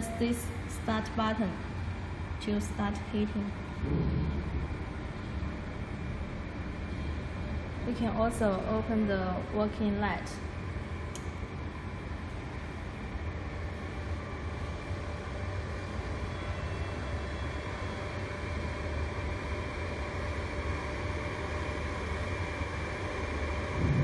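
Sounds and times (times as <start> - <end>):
hot-air blowers and fans humming: 0.0 - 24.0.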